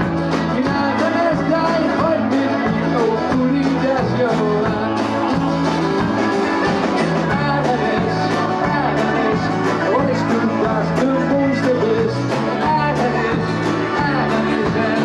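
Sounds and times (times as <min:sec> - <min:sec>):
bending lead melody: 0:00.0 - 0:15.0
rock band instrumental: 0:00.0 - 0:15.0.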